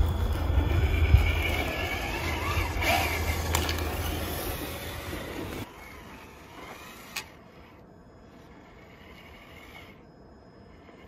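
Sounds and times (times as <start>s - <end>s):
rc car electric motor running: 0.0s - 11.0s.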